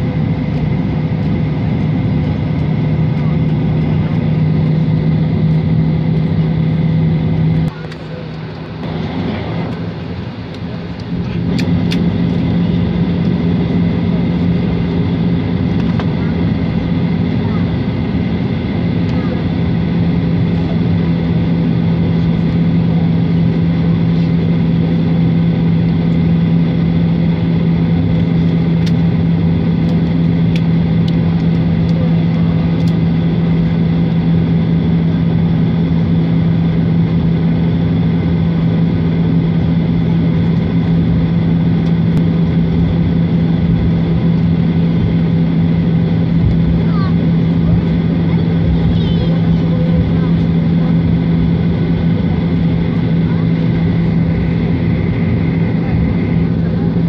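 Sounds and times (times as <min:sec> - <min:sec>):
jet engines in airplane cabin: 0:00.0 - 0:57.0.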